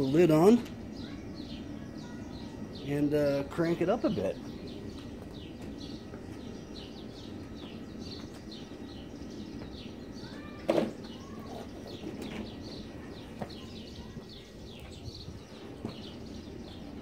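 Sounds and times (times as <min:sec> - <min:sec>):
furnace burner roaring: 0:00.0 - 0:17.0
small birds chirping: 0:00.0 - 0:17.0.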